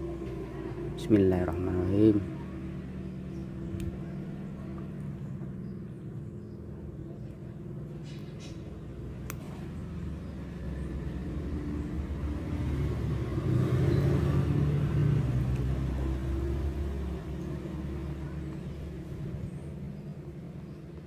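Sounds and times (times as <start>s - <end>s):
passing vehicle rumble: 0.0s - 21.0s.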